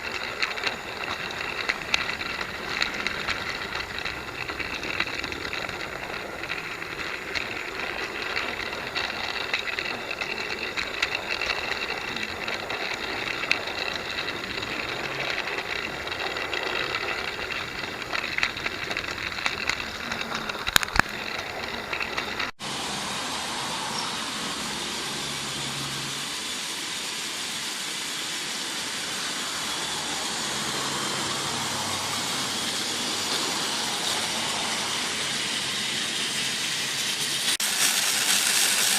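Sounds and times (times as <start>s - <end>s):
smooth hissing running noise: 0.0s - 38.9s
toy train motor whirring: 0.0s - 38.9s
wheels clicking on track: 0.0s - 38.9s.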